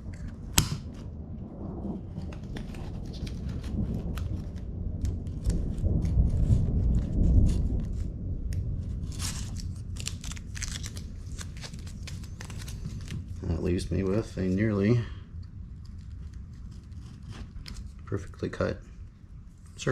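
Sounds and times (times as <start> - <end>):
low rumble: 0.0 - 19.9.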